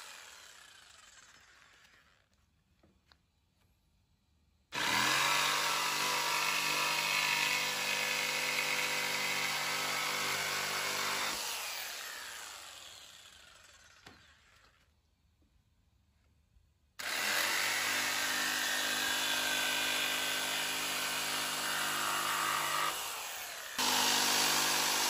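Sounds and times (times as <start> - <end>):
electric jigsaw cutting wood: 0.0 - 2.4, 4.8 - 14.8, 17.0 - 25.0.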